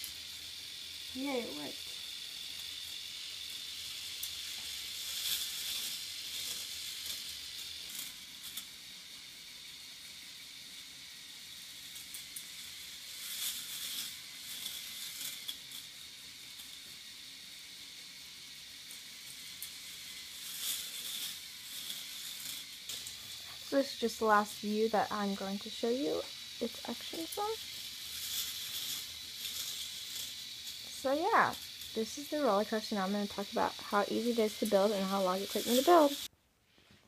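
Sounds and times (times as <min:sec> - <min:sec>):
toy chain lift clattering whir: 0:00.0 - 0:36.3.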